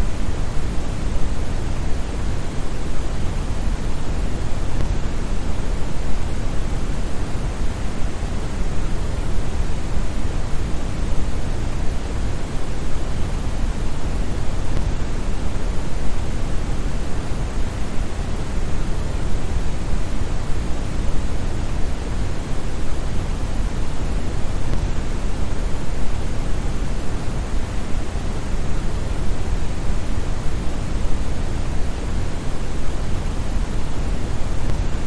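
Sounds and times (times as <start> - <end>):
brown noise hiss: 0.0 - 35.0.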